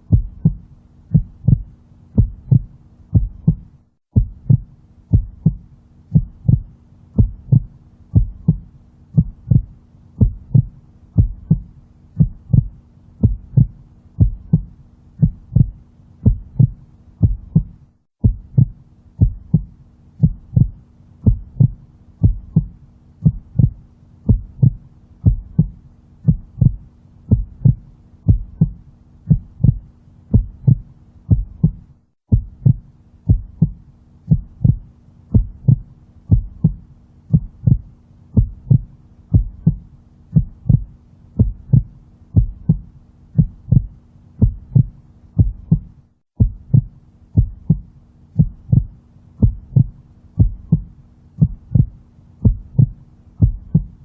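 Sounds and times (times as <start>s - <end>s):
faint steady hum: 0.0s - 54.0s
heartbeat thumps: 0.0s - 54.0s.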